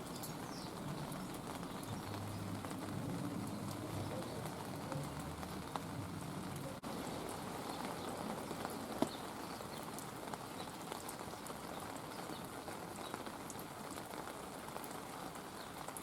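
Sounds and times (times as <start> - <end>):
light rain patter: 0.0 - 16.0.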